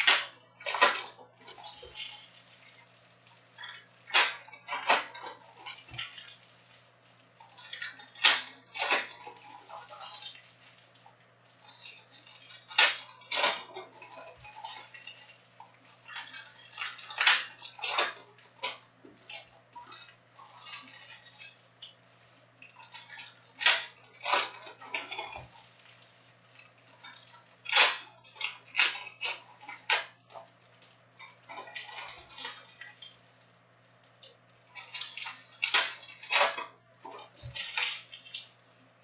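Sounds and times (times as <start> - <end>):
foil wrappers crinkling and tearing: 0.0 - 39.0.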